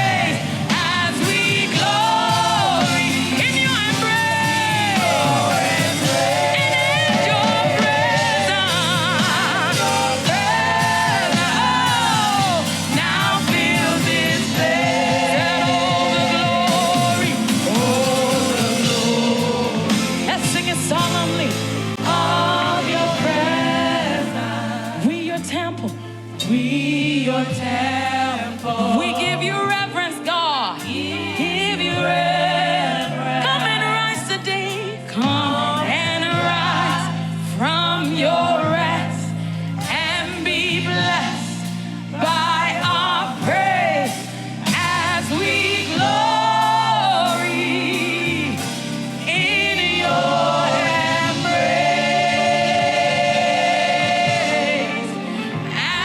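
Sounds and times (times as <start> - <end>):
choir singing: 0.0 - 25.7, 26.4 - 56.0
band with bass: 0.0 - 56.0.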